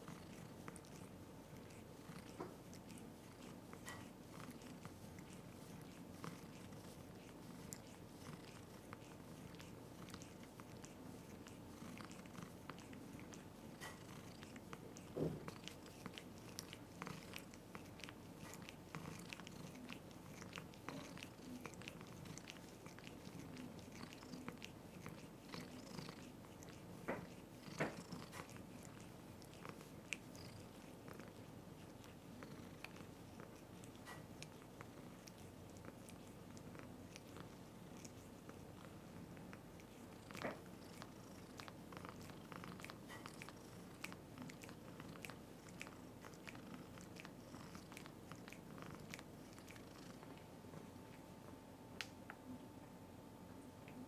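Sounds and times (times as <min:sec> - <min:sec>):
cat licking and nibbling: 0:00.0 - 0:52.6.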